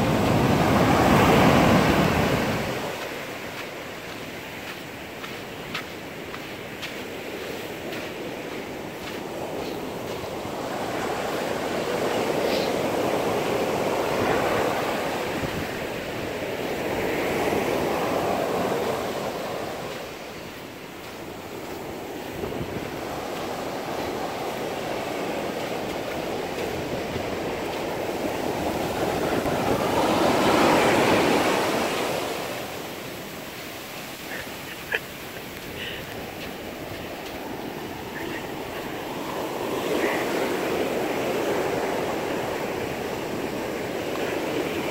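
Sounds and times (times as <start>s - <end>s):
ocean surf breaking on beach: 0.0s - 44.9s.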